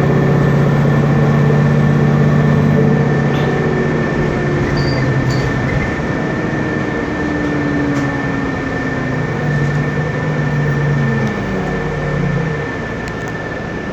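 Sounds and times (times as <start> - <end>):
bus diesel engine running: 0.0 - 13.9
constant rushing noise: 0.1 - 13.9
steady high whine: 0.2 - 13.9.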